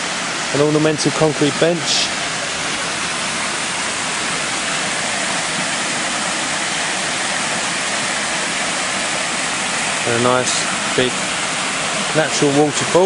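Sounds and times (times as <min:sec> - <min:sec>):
waterfall pouring into pond: 0:00.0 - 0:13.0.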